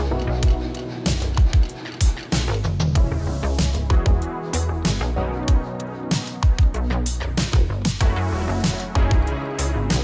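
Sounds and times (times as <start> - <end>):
electronic music with bass and drums: 0.0 - 10.0.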